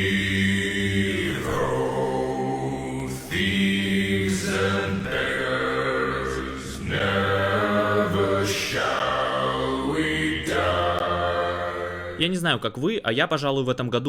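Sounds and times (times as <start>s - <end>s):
droning choir-like chanting: 0.0s - 12.8s.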